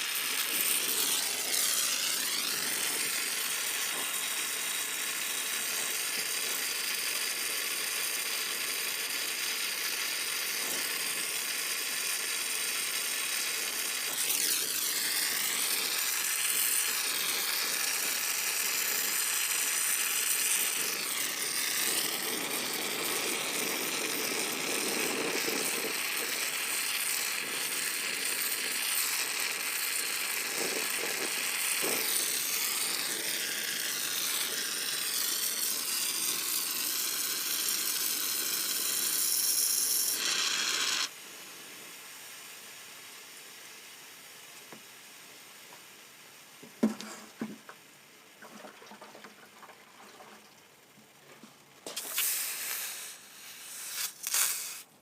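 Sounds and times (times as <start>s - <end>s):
torch flame hissing: 0.0s - 47.5s, 51.8s - 55.0s.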